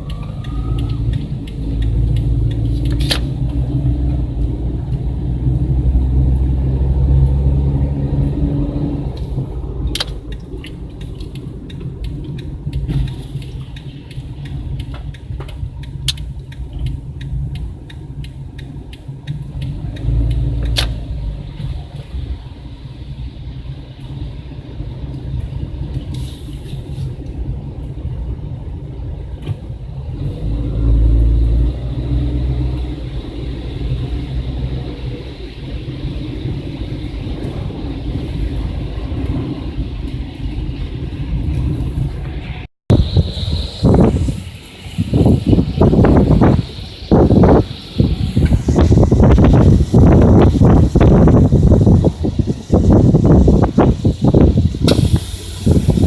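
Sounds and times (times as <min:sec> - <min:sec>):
wind gusting against microphone: 0:00.0 - 0:56.0.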